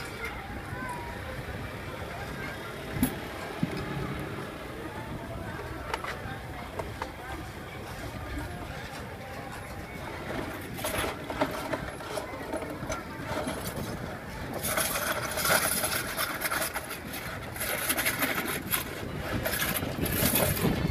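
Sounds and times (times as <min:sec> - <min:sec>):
motor traffic passing: 0:00.0 - 0:20.9.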